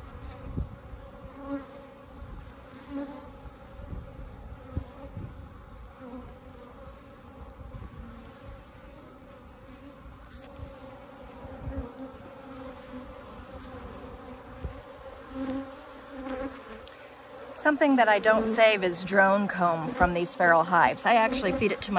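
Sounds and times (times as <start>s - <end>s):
bees buzzing: 0.0s - 21.9s.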